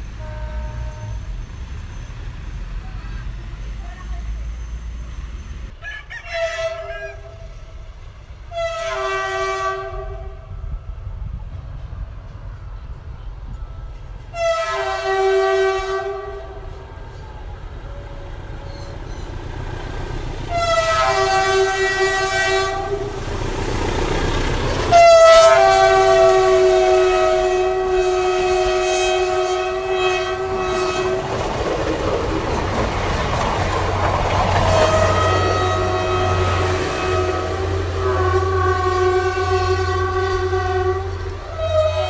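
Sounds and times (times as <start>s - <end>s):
train horn blasts: 0.0s - 11.3s, 13.5s - 19.4s, 20.4s - 31.6s, 33.7s - 42.0s
train rumbling on rails: 0.0s - 42.0s.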